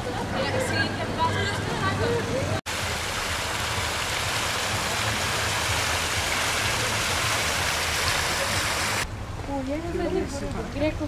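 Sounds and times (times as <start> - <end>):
water rushing: 0.1 - 11.0.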